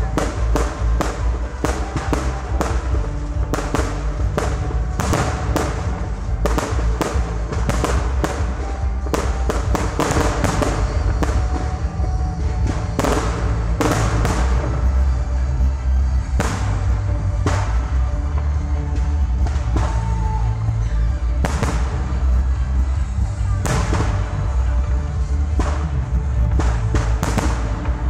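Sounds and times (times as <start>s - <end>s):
fireworks banging and crackling: 0.0s - 28.0s
music with heavy bass: 0.0s - 28.0s.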